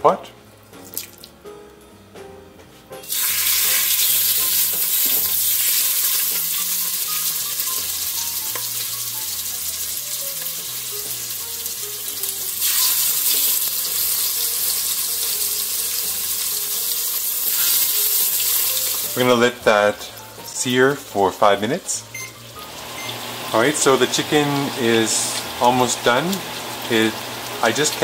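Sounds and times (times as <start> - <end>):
chicken sizzling in hot oil: 3.0 - 28.0.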